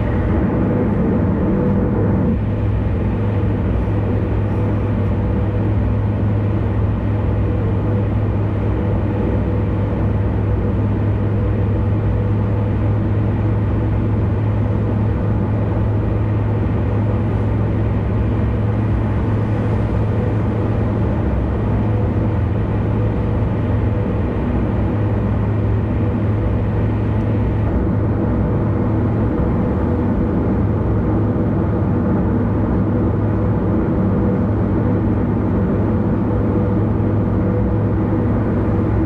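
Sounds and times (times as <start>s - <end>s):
car tyre and engine noise: 0.0s - 39.0s.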